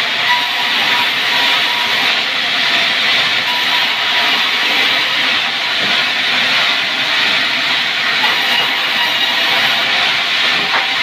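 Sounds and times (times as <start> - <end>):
sawmill saw cutting wood: 0.0 - 11.0.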